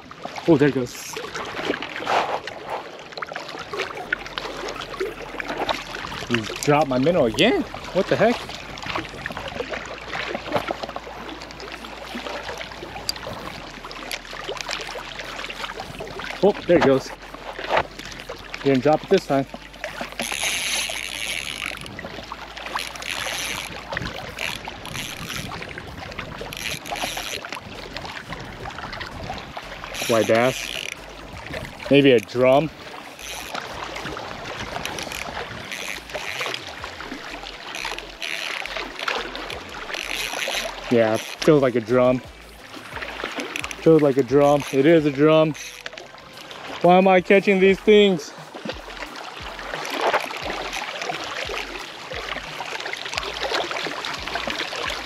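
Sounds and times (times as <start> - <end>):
waves lapping against rocks: 0.0 - 55.0
fishing reel cranking: 4.0 - 28.0, 28.9 - 42.2, 43.2 - 46.2, 48.8 - 55.0.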